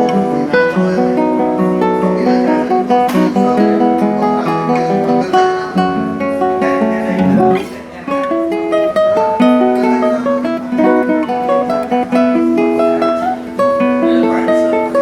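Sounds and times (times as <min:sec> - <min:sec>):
classical guitar solo: 0:00.0 - 0:15.0.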